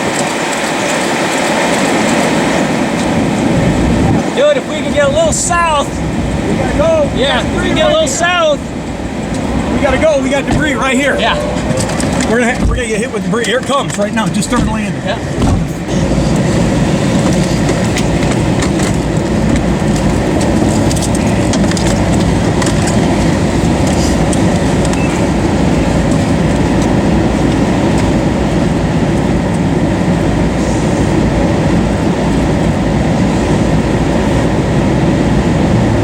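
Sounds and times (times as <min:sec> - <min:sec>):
tornado winds roaring: 0:00.0 - 0:36.0.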